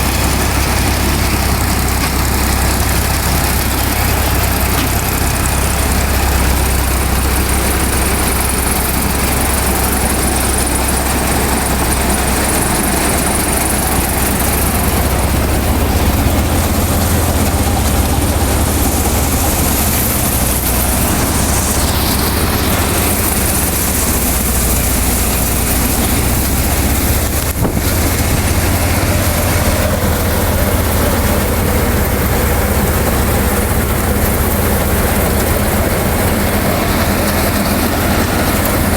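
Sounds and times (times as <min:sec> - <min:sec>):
harvester mechanical rush: 0:00.0 - 0:38.9
tractor engine humming: 0:00.0 - 0:38.9.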